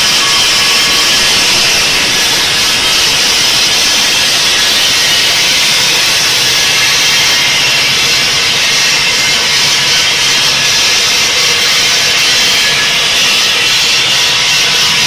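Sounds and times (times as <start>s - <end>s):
circular saw grinding through stone: 0.0s - 15.0s.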